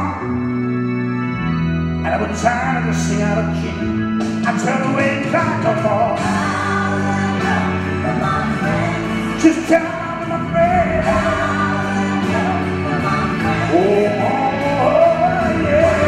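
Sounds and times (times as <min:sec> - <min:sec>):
backing music with bass notes: 0:00.0 - 0:16.0
man singing into a microphone: 0:02.0 - 0:16.0.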